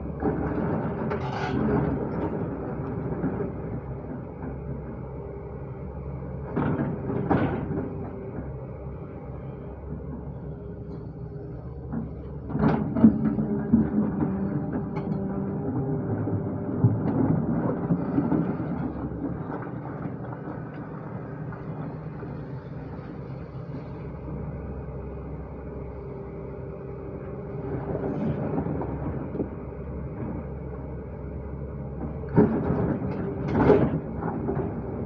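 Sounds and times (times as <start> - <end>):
diesel digger engine running: 0.0 - 35.0.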